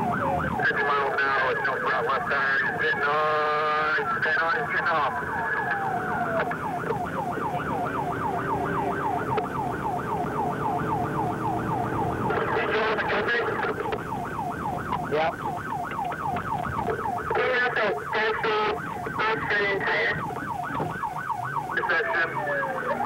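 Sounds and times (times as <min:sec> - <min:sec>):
police siren wailing and yelping: 0:00.0 - 0:23.0.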